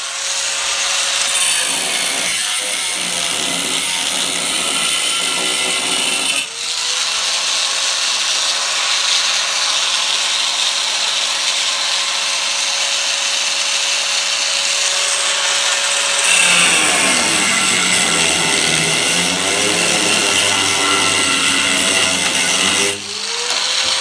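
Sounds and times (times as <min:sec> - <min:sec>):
power tool grinding metal: 0:00.0 - 0:24.0.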